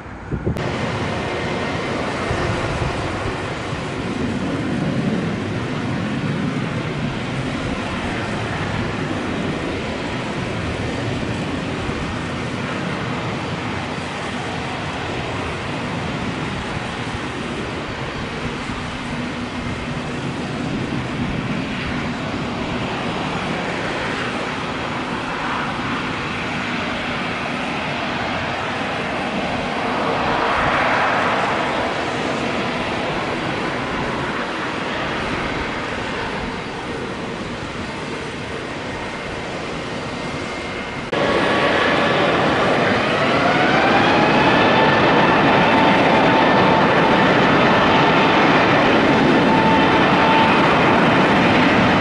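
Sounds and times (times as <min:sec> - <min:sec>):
jet engines at taxi power: 0:00.0 - 0:52.0.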